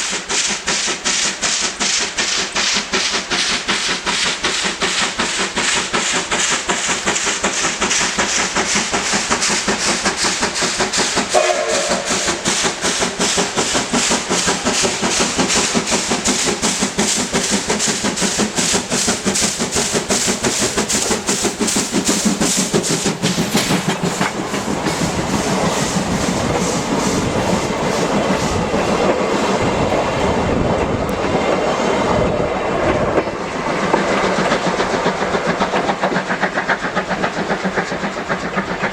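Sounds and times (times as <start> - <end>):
steam locomotive exhaust beating: 0.0 - 38.9
wheels rumbling on rail: 0.0 - 38.9.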